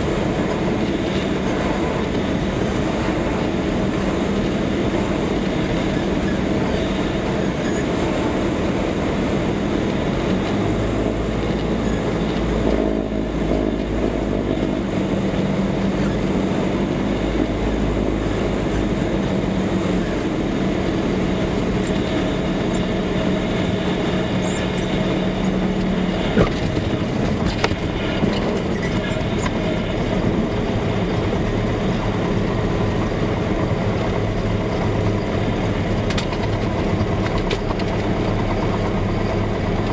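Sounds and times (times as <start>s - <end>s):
plane engine and propeller: 0.0s - 39.9s.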